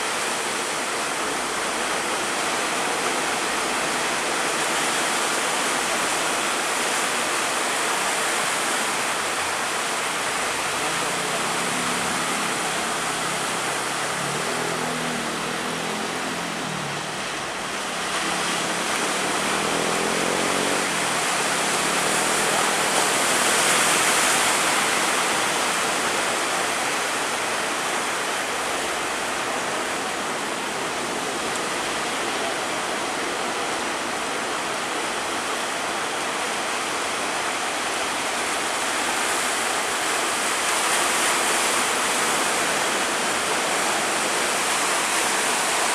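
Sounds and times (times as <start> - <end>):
heavy sea rushing: 0.0 - 45.9
wind: 0.0 - 45.9.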